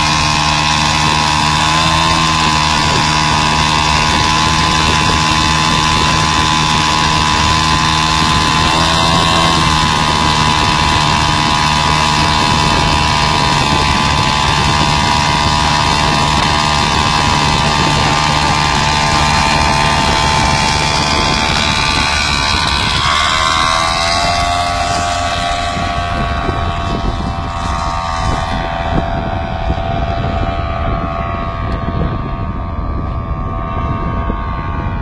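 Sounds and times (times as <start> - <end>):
motorcycle engine driving propeller: 0.0 - 35.0.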